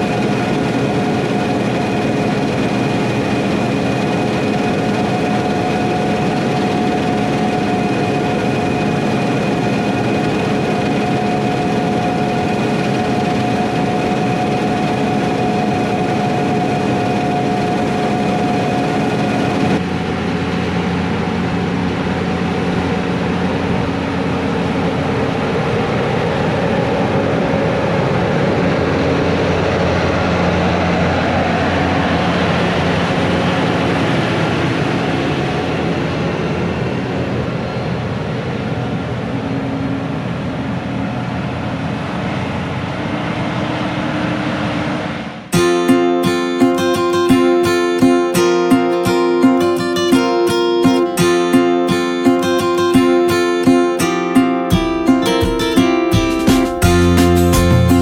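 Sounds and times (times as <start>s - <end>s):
diesel engine drone: 0.0s - 58.0s
high whine of machine drives: 0.0s - 58.0s.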